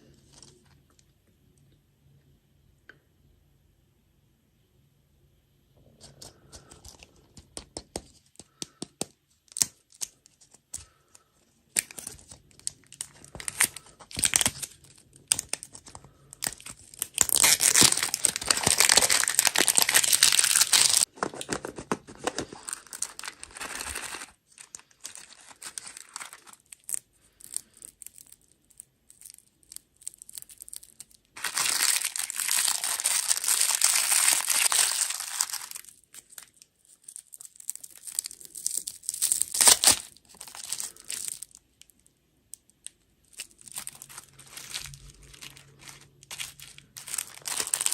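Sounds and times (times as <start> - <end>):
plastic wrappers crinkling: 9.5 - 47.9.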